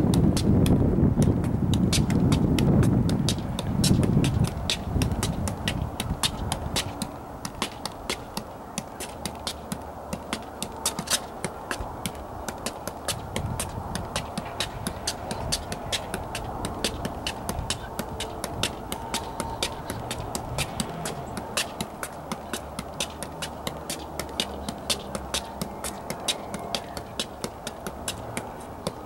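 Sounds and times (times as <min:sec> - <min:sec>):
ball thudding off feet: 0:00.0 - 0:29.0.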